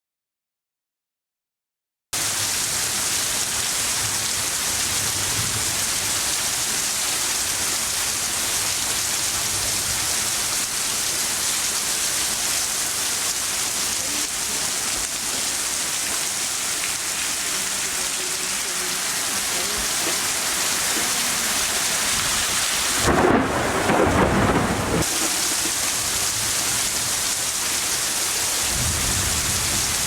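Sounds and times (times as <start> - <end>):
heavy rain pouring: 2.2 - 30.0.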